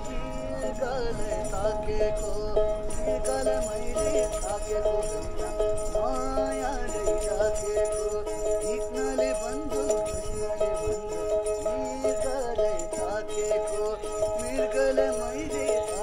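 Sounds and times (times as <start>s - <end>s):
background music with jingling bells: 0.0s - 16.0s.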